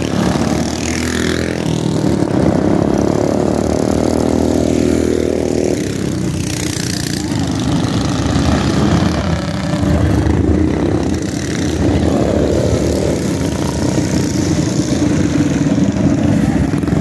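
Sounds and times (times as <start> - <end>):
mini bike engines droning: 0.0 - 17.0.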